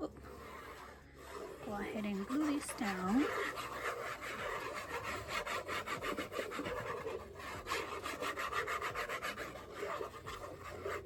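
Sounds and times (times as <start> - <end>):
paper being rubbed: 0.0 - 11.0.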